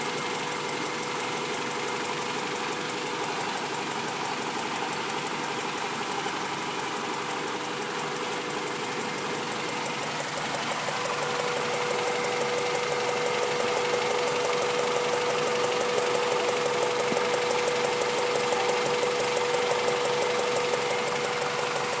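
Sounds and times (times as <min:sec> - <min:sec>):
engine idling with rapid ticking: 0:00.0 - 0:22.0.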